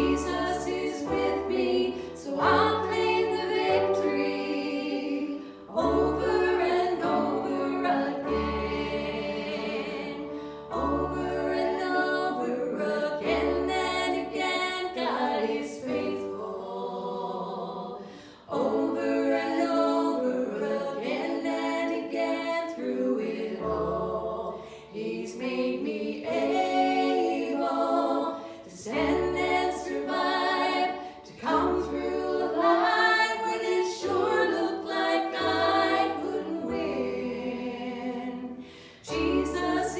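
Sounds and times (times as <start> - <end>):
voices singing in harmony: 0.0 - 39.9.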